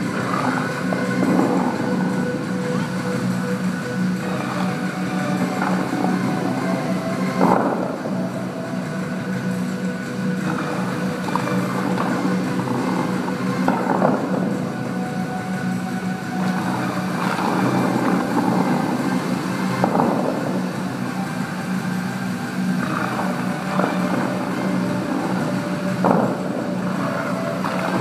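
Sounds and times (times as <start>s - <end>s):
fountain show music: 0.0s - 28.0s
water jets surging: 0.0s - 28.0s.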